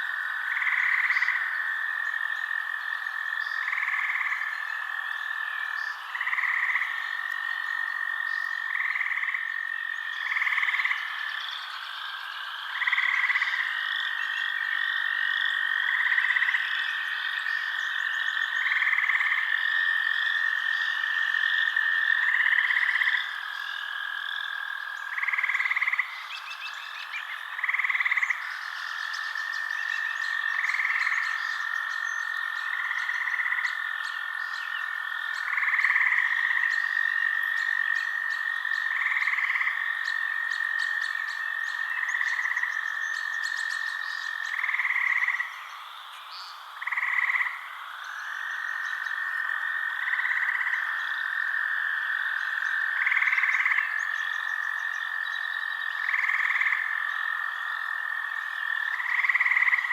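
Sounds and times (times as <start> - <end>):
frog calls: 0.0 - 59.9
frogs trilling: 0.0 - 59.9.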